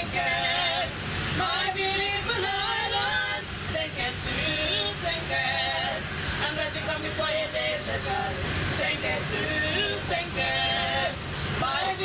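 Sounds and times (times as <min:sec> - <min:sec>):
train car rumble: 0:00.0 - 0:12.0
women singing into microphone: 0:00.0 - 0:12.0.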